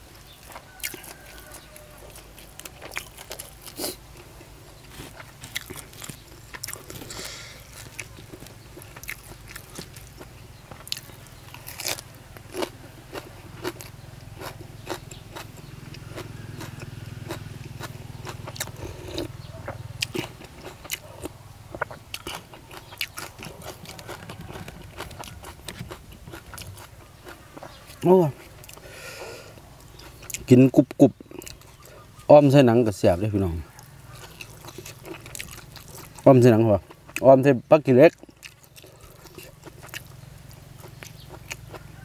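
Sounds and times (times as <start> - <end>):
man chewing crunchy food: 0.0 - 32.2, 33.4 - 42.0.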